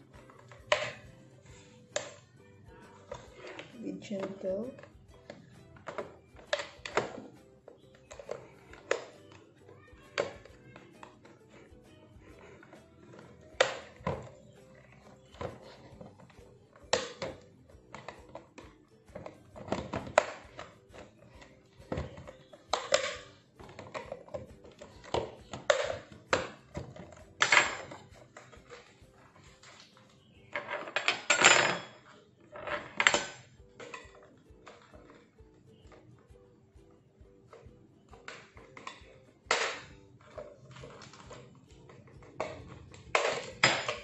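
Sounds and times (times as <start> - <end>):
plastic vacuum parts clicking: 0.2 - 2.2, 2.9 - 11.6, 12.3 - 31.4, 37.5 - 44.0.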